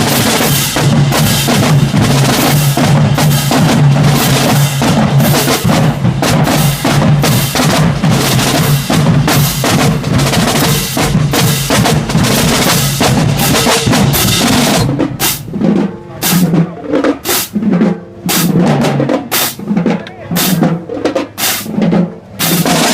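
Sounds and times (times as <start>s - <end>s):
bass drums: 0.0s - 22.9s
snare drums: 0.0s - 22.9s.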